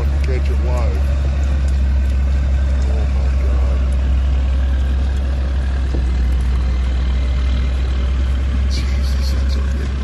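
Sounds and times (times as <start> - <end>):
vehicle engine rumbling at low revs: 0.0 - 10.0.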